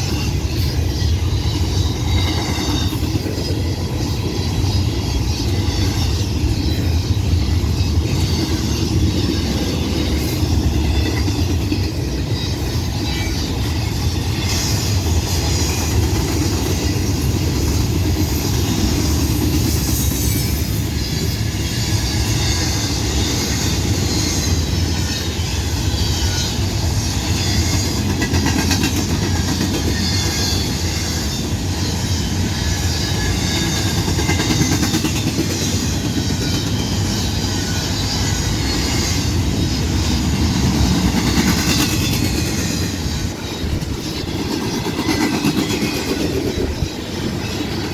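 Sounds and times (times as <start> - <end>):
train wheels rolling on rails: 0.0 - 47.9.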